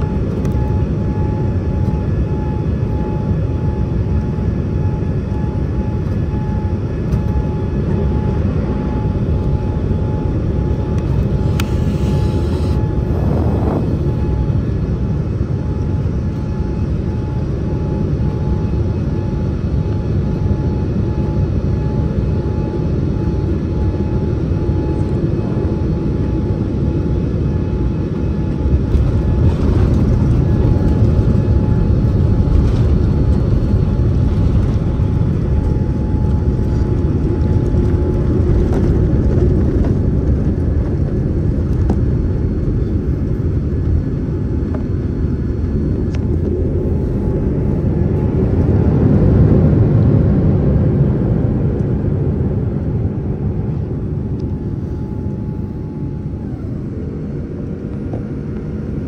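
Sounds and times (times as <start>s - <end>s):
faint steady whine: 0.0s - 59.0s
jet airliner rumble: 0.0s - 59.0s.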